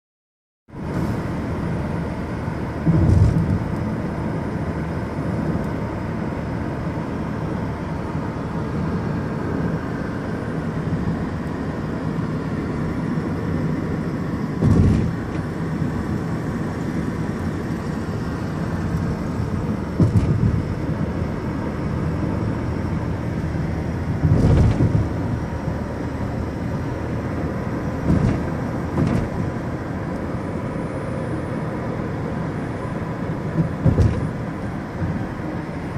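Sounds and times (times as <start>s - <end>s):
car road and engine noise: 0.7s - 35.9s.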